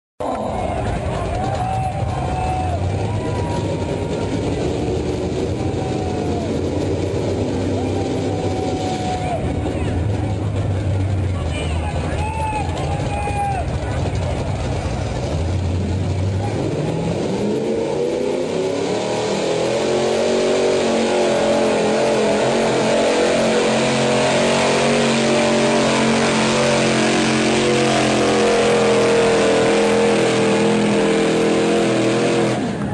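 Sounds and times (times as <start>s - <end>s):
truck engine under load: 0.2s - 32.9s.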